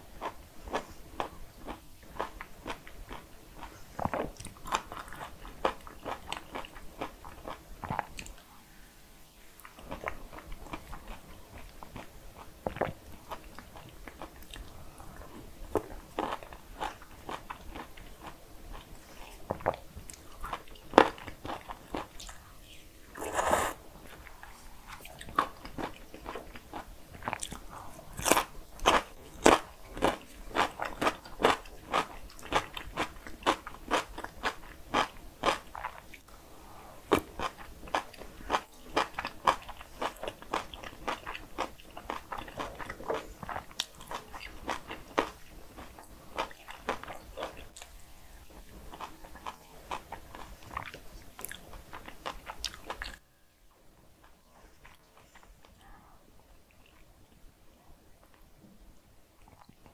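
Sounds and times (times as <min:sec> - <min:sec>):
person chewing food: 0:00.1 - 0:08.4, 0:09.6 - 0:22.5, 0:23.1 - 0:36.2, 0:37.0 - 0:53.2, 0:54.2 - 0:56.0, 0:59.4 - 0:59.9.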